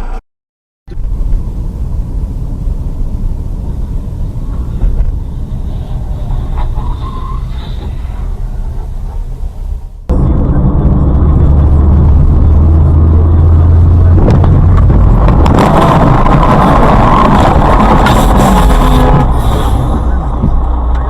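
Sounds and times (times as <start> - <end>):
heavy vehicle engine running: 0.9 - 21.0
rough noisy sound: 0.9 - 21.0.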